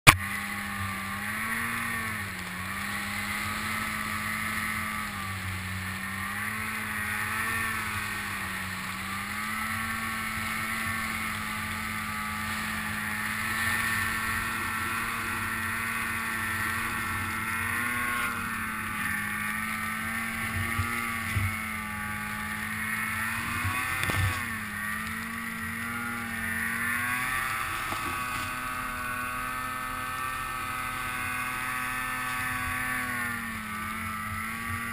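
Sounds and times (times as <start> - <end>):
snowmobile engine running: 0.0 - 34.9.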